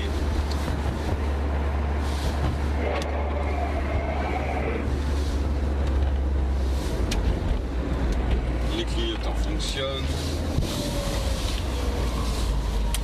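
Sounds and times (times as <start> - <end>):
car engine drone inside cabin: 0.0 - 13.0.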